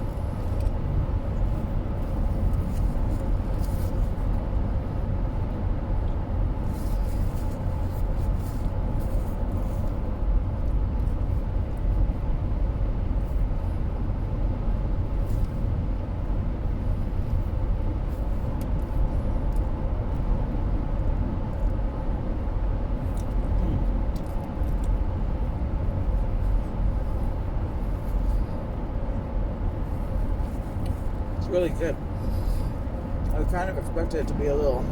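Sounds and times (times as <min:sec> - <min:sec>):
car road and engine noise: 0:00.0 - 0:34.9.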